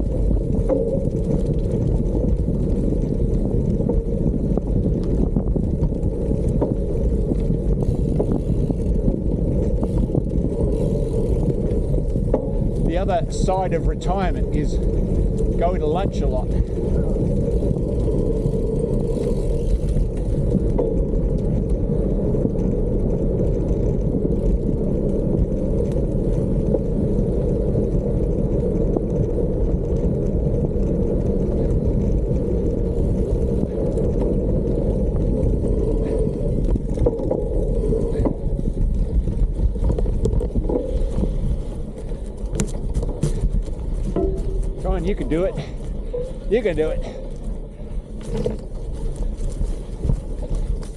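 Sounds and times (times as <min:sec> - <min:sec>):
bicycle tyres rolling on gravel: 0:00.0 - 0:50.9
small clicks and rattles: 0:00.0 - 0:50.9
wind rumble on microphone: 0:00.0 - 0:50.9.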